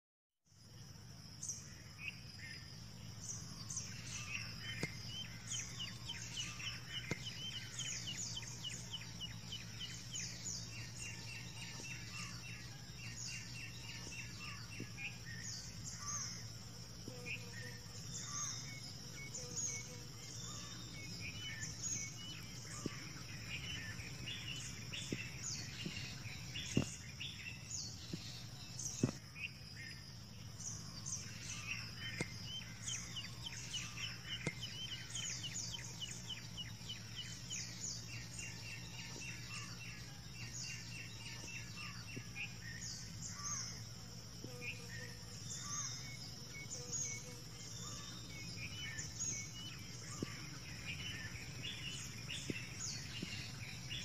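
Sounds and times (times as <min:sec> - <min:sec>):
birds chirping: 0:00.8 - 0:54.0.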